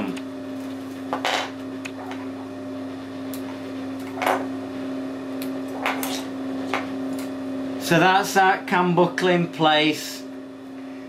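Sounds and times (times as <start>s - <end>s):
steady electric hum: 0.0s - 11.0s.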